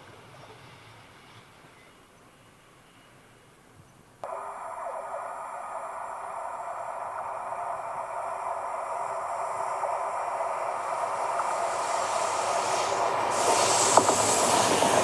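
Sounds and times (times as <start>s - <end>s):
train approaching: 0.0s - 3.2s, 4.2s - 15.0s
high hiss of train: 0.0s - 3.6s, 4.2s - 15.0s.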